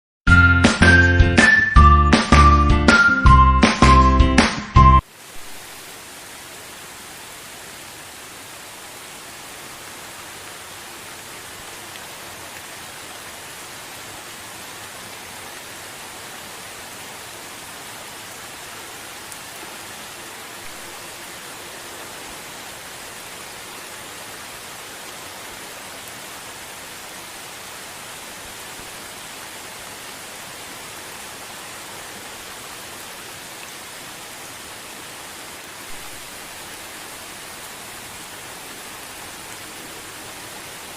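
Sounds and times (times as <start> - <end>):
gentle rain falling: 0.3 - 40.9.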